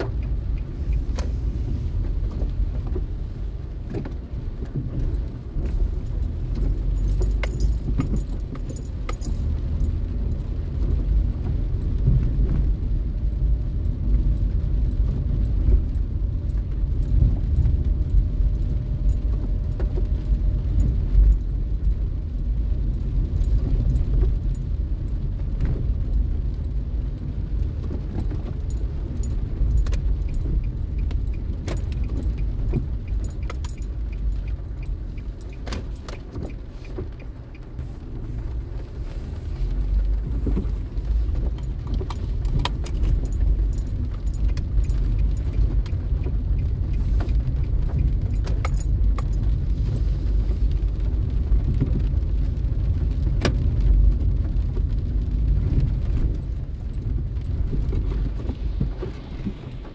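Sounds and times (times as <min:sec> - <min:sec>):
engine and tyres on wet asphalt: 0:00.0 - 0:59.9
light ticks and rattles: 0:00.0 - 0:59.9.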